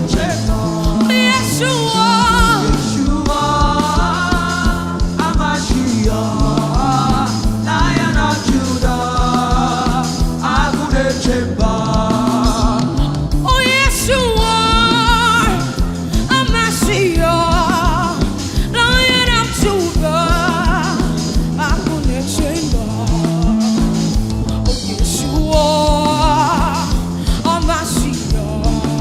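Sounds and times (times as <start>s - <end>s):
worship band music: 0.0s - 29.0s.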